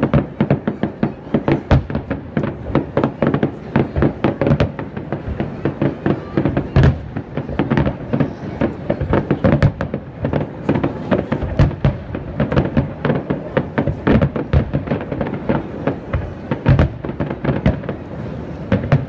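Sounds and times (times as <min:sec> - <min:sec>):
deep firework booms: 0:00.0 - 0:19.0.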